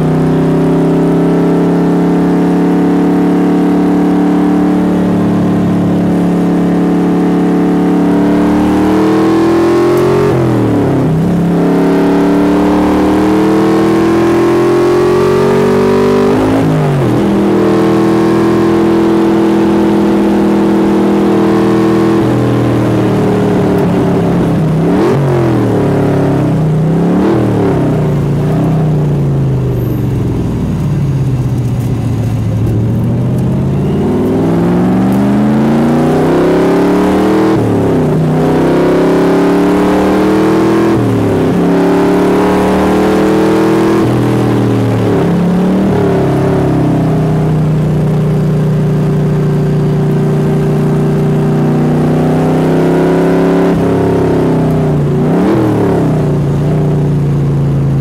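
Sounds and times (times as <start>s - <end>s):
race car engine accelerating hard: 0.0s - 58.0s.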